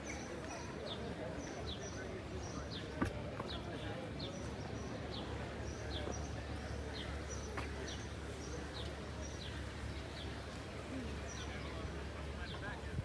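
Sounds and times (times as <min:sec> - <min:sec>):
city street hum: 0:00.0 - 0:13.0.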